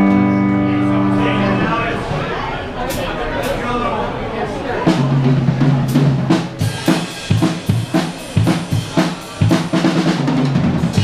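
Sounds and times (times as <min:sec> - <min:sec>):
band holding low notes: 0:00.0 - 0:11.0.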